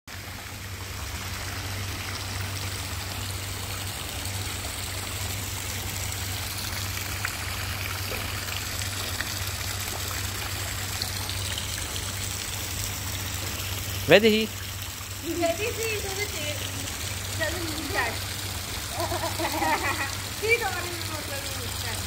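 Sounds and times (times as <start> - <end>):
fountain water trickling and splashing: 0.1 - 22.0.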